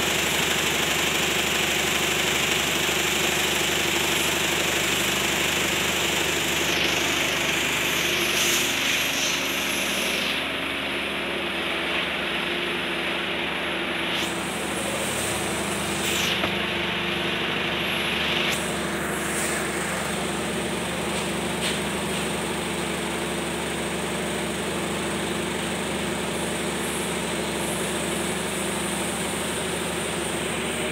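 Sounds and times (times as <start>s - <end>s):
vibrating machine hum and rattle: 0.0s - 30.9s.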